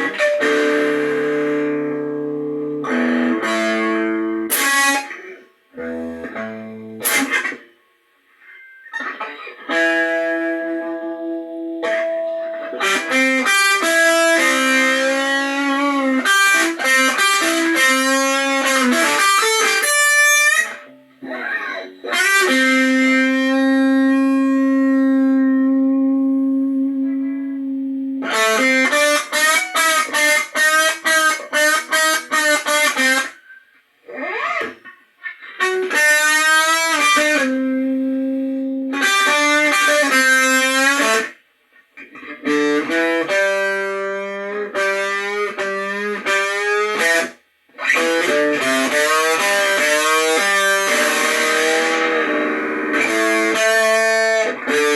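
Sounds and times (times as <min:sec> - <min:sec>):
electric guitar blues solo: 0:00.0 - 0:54.9.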